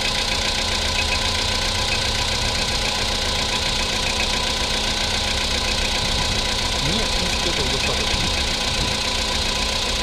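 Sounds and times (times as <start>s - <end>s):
car engine idling: 0.0s - 10.0s
fast metallic engine ticking: 0.0s - 10.0s.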